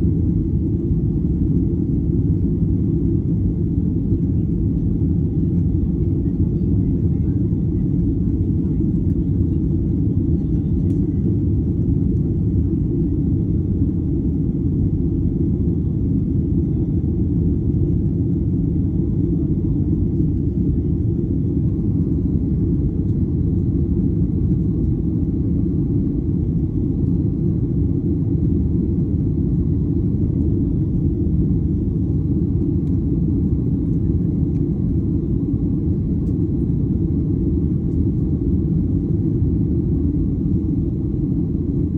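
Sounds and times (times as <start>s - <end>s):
jet engine cabin rumble: 0.0s - 41.9s.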